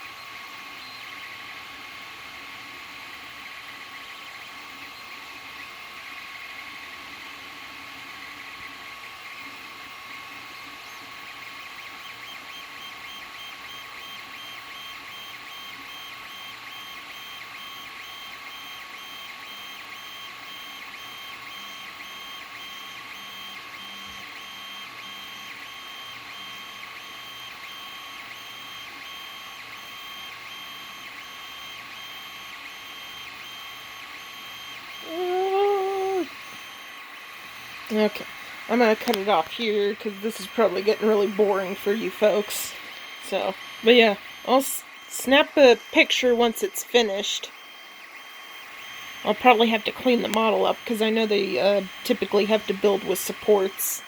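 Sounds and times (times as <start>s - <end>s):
printer cooling fans whirring: 0.0s - 54.0s
stepper motors whining: 2.6s - 54.0s.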